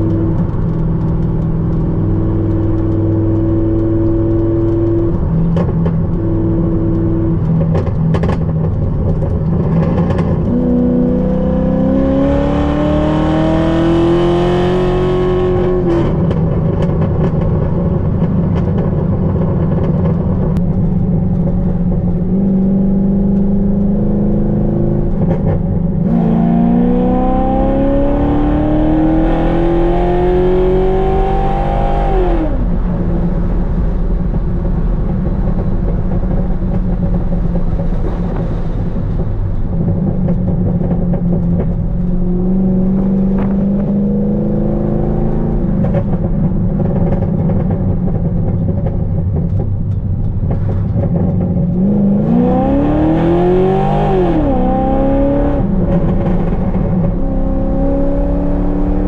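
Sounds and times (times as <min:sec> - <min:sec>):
sports car engine revving: 0:00.0 - 0:17.4, 0:18.0 - 0:48.8, 0:50.5 - 0:59.0.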